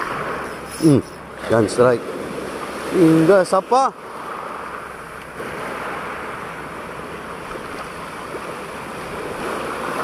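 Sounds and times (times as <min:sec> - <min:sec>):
small waves washing ashore: 0:00.0 - 0:10.0.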